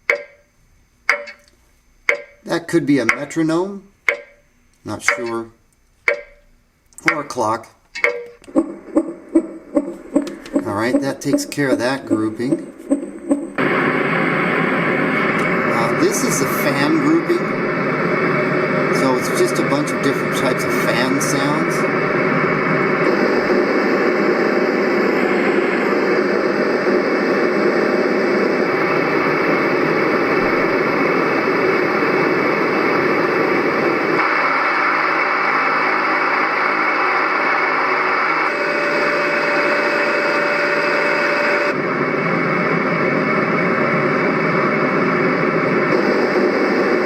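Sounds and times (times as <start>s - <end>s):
recorded fan rushing hiss: 0.0s - 39.4s, 40.0s - 47.0s
steady hum: 0.0s - 47.0s
thin whine: 0.0s - 47.0s.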